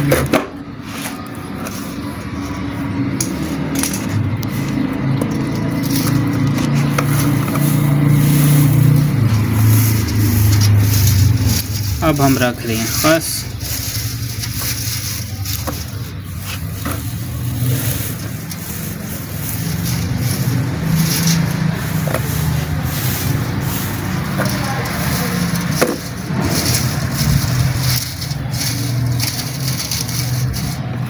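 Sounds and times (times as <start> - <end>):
dry fibre crackling and rustling: 1.1 - 31.0
low mechanical rumble: 1.2 - 31.0.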